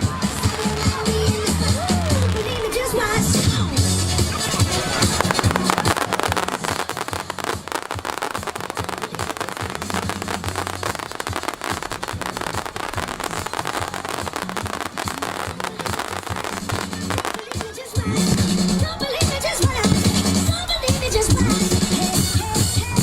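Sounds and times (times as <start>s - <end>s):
fireworks pops and bangs: 0.0s - 23.0s.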